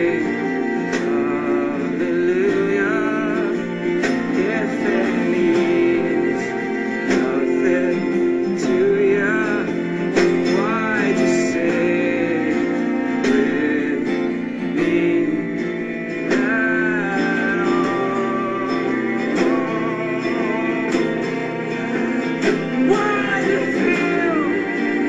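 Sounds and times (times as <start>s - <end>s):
guitar accompaniment: 0.0s - 25.0s
person singing: 0.0s - 25.0s.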